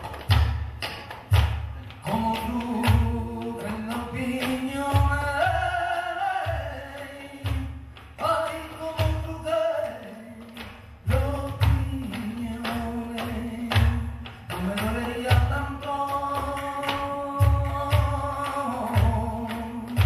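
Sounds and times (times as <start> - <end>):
flamenco guitar: 0.0 - 20.0
sharp percussive strikes: 0.0 - 20.0
person singing: 1.9 - 20.0.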